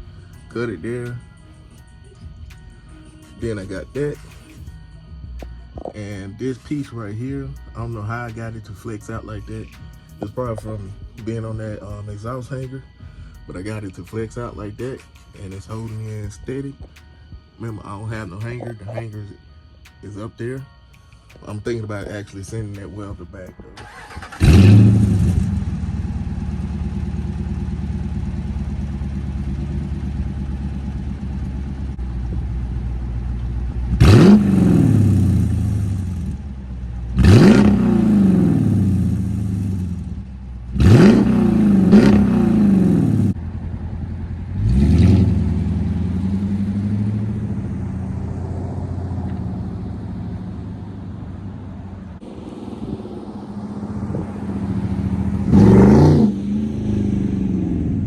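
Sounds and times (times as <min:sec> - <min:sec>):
car engine idling and revving: 0:00.0 - 0:20.2, 0:21.3 - 0:58.0.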